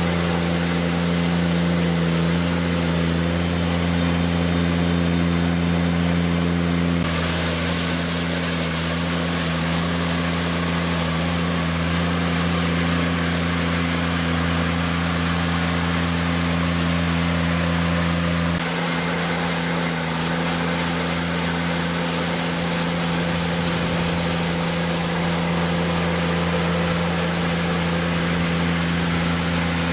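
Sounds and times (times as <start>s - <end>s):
diesel engine running under load: 0.0s - 29.9s.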